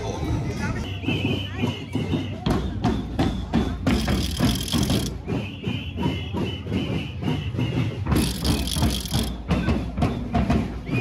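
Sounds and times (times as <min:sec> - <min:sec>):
crowd footsteps on pavement: 0:00.0 - 0:11.0.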